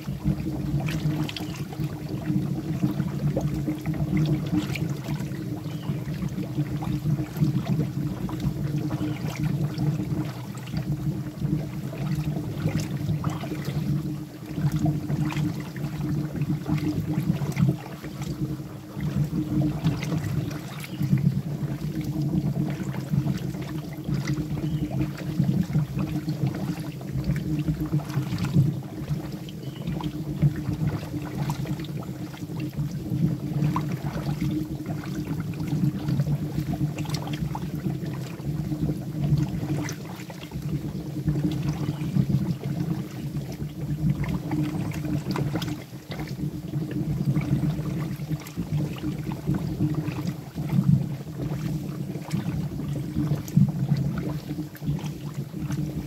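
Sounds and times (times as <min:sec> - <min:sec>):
molten wax boiling: 0:00.0 - 0:56.0.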